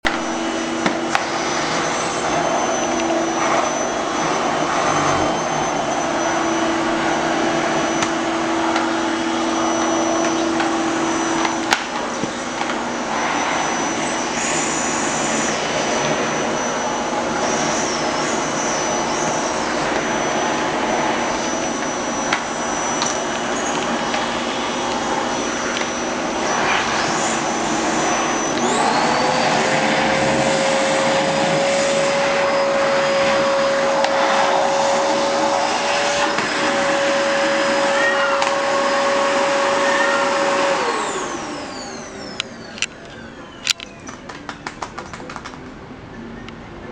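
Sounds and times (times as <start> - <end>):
vacuum cleaner running: 0.0 - 45.4
vacuum whistle and whine: 0.0 - 45.4.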